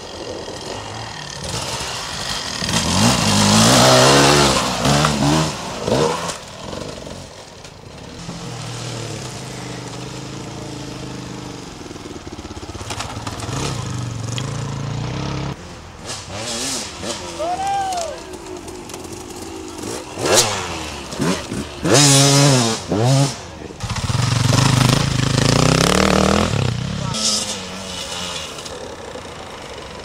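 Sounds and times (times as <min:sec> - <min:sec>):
dirt bike engine revving: 0:00.0 - 0:17.4, 0:18.3 - 0:30.0
distant dirt bike running steadily: 0:00.0 - 0:30.0.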